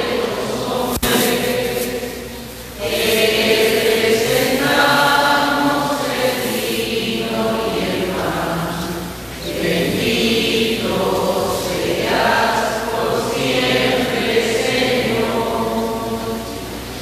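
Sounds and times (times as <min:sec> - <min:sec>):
voices singing a hymn: 0:00.0 - 0:17.0.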